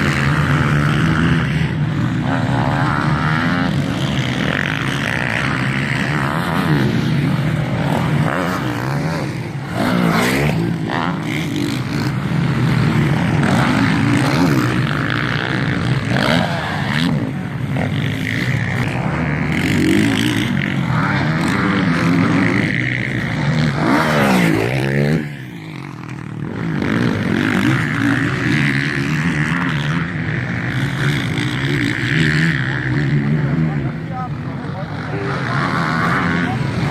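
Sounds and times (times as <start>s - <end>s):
motorcycle engines revving: 0.0s - 36.9s.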